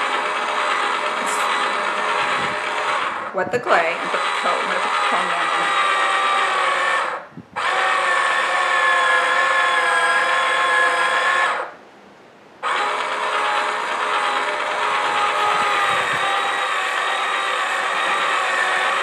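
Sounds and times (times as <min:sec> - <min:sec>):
small electric motor whining: 0:00.0 - 0:11.8, 0:12.6 - 0:19.0.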